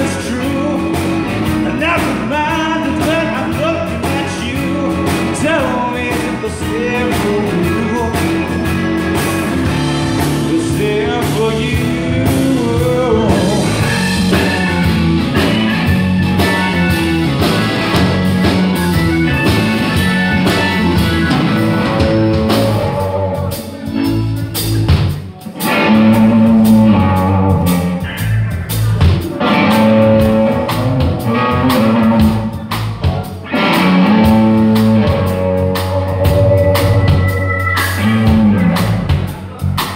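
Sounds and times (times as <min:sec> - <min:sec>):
bass: 0:00.0 - 0:39.9
drums: 0:00.0 - 0:39.9
electric guitar: 0:00.0 - 0:39.9
organ: 0:00.0 - 0:39.9.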